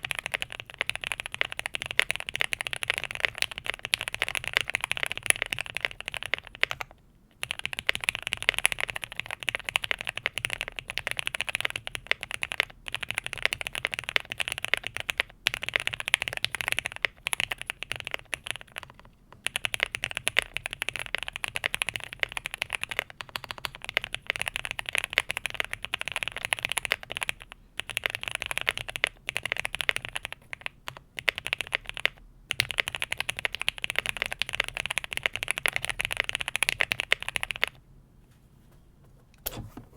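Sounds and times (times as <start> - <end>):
fast typing on mechanical keyboard: 0.0 - 37.8.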